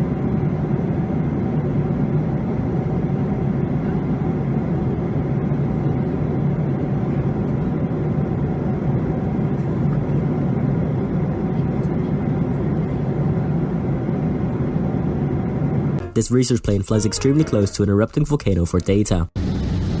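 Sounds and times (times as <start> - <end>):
airplane engine roar in flight: 0.0 - 16.0, 19.4 - 20.0.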